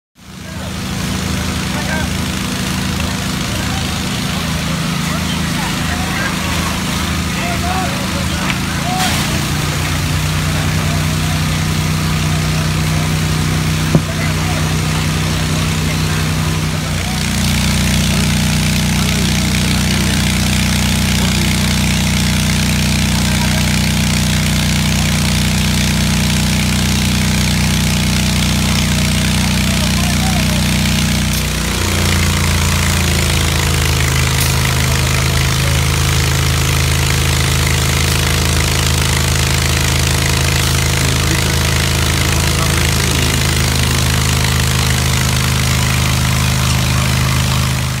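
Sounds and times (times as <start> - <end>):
fire engine idling: 0.2 - 48.0.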